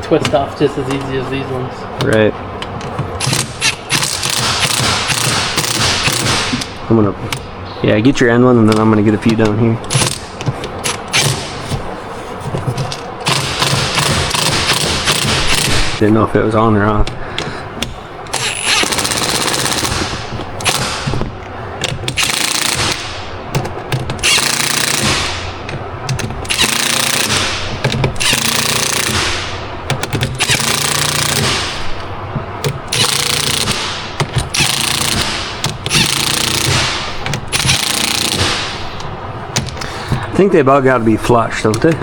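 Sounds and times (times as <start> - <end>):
impact wrench rattling: 2.0 - 7.5, 8.7 - 11.9, 12.6 - 16.0, 17.0 - 40.2.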